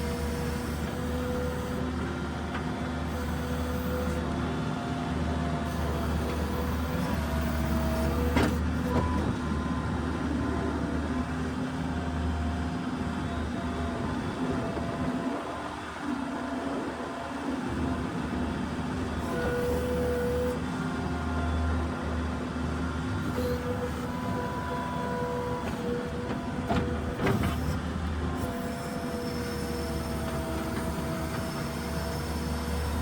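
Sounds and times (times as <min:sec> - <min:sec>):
skid steer engine running: 0:00.0 - 0:33.0.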